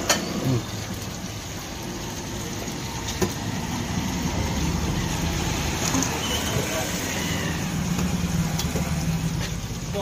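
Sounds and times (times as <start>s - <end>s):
engine rumbling: 0.0s - 10.0s.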